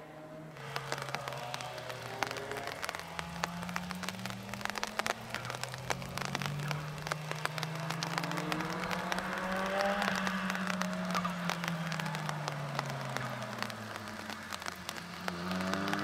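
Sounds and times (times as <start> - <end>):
distant race car engines: 0.0 - 16.0
short sharp ticks: 0.6 - 16.0.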